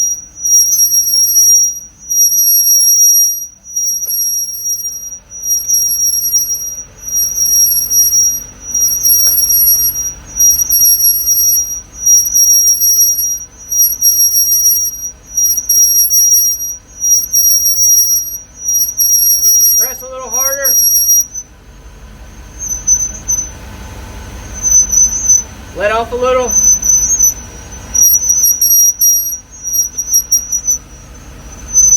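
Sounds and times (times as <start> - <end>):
high-pitched brake squeal: 0.0 - 31.9
low hum: 3.6 - 31.9.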